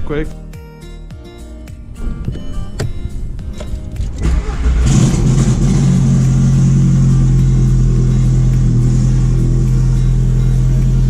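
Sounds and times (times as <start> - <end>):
car engine starting and idling: 1.8 - 11.0.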